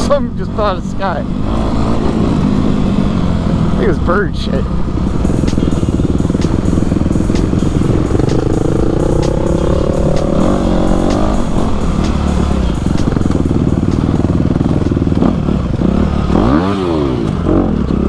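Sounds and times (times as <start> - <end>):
dirt bike engine revving: 1.4 - 18.0.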